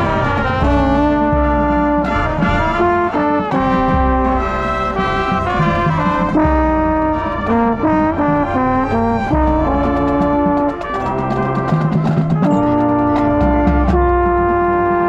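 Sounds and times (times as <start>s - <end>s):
brass band playing chords: 0.0s - 15.0s
percussion strikes: 0.0s - 15.0s.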